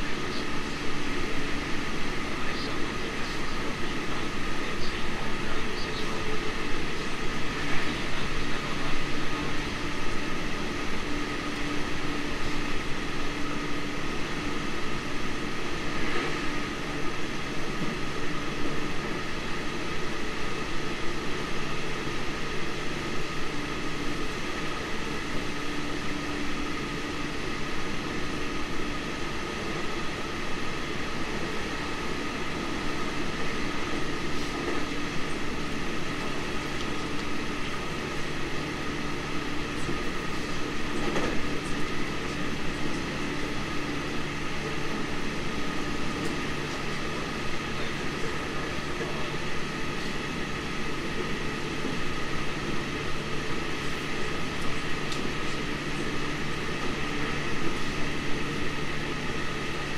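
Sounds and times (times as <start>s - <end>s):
constant hums: 0.0s - 59.9s
train rolling rush: 0.0s - 59.9s.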